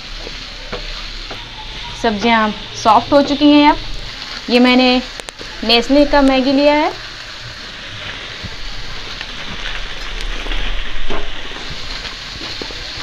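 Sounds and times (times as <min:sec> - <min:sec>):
dry noodles crackling: 0:00.0 - 0:13.0
vegetables sizzling in oil: 0:00.0 - 0:13.0.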